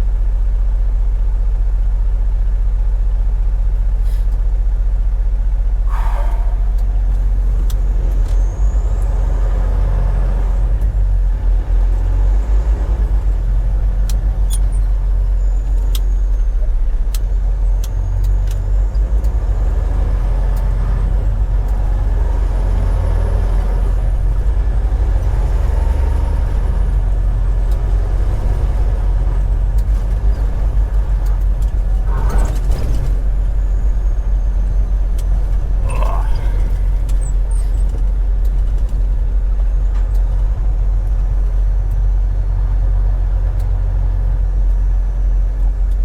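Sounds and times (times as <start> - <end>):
truck engine drone: 1.3 - 46.0
road noise: 3.0 - 46.0.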